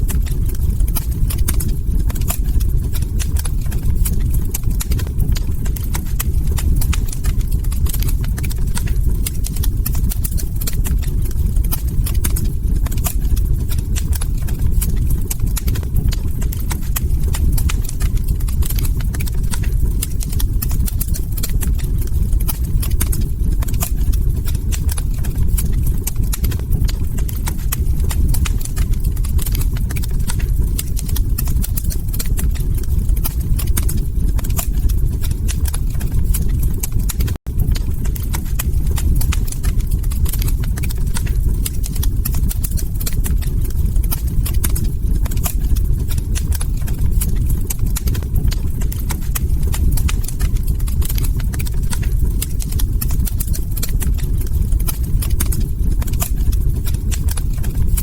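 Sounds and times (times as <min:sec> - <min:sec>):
log fire crackling: 0:00.0 - 0:58.0
low rumble of burning wood: 0:00.0 - 0:58.0.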